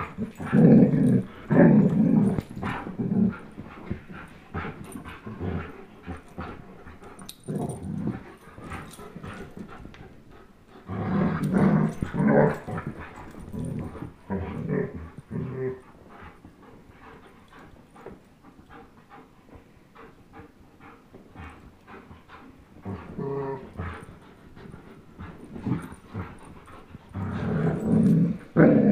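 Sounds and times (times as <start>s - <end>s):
dogs play growling: 0.0s - 28.9s.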